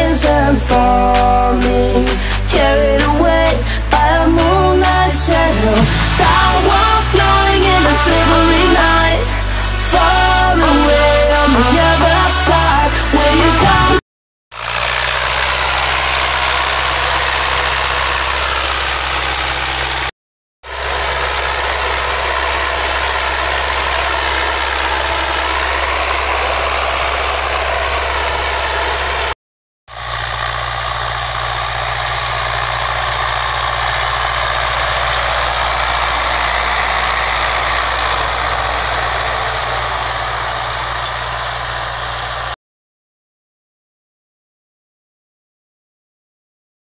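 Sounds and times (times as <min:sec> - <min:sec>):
diesel tractor engine under load: 0:00.0 - 0:42.6.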